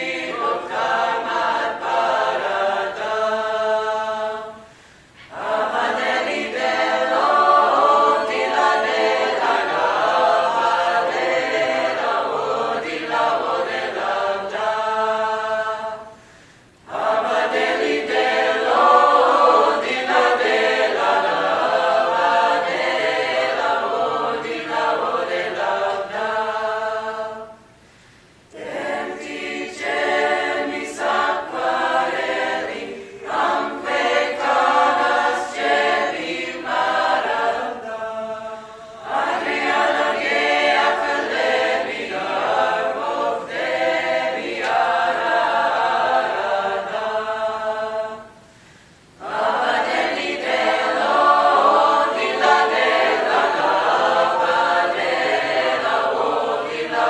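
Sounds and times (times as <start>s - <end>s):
choir singing in dissonant harmony: 0.0s - 16.2s, 16.8s - 27.8s, 28.5s - 57.0s.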